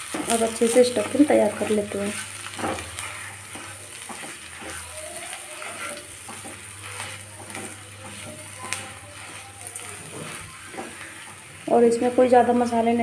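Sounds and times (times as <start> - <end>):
wooden spatula scraping pan: 0.0 - 12.2
oil sizzling: 0.0 - 13.0.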